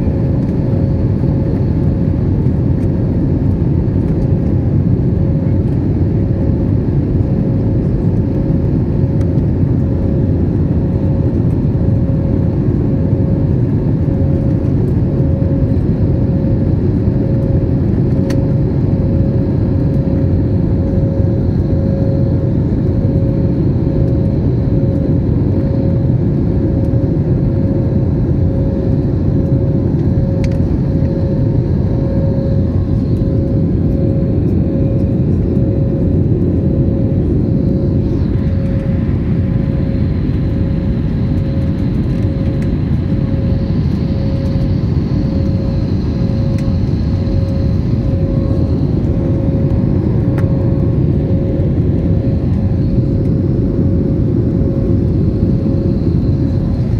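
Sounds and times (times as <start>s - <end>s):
jet engine roar and rushing air: 0.0s - 56.9s
pulsing mid-pitched hum: 0.0s - 56.9s.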